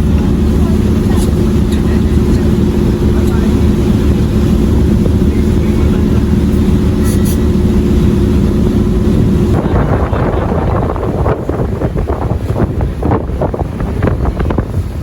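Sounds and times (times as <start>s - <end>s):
boat engine droning: 0.0s - 15.0s
rushing water: 0.0s - 15.0s
wind noise: 0.0s - 15.0s.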